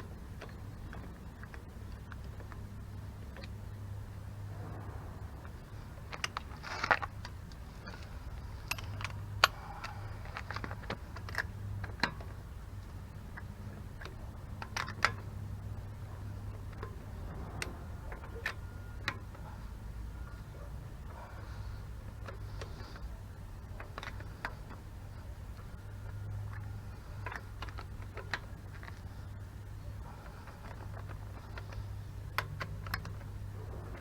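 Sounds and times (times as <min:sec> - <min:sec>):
steady low hum: 0:00.0 - 0:34.0
metal parts clicking and clinking: 0:05.4 - 0:34.0.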